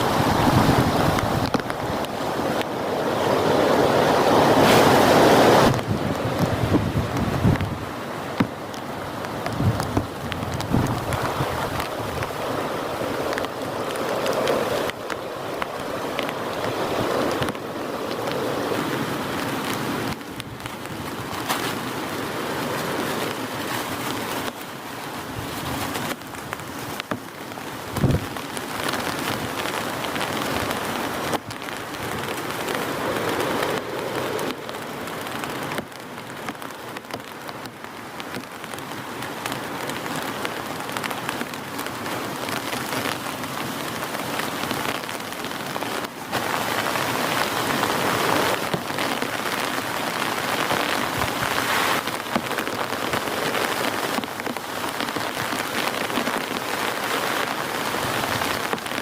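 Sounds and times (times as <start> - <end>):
raindrops ticking: 0.0 - 3.2, 5.7 - 59.0
heavy rain pattering: 0.0 - 59.0.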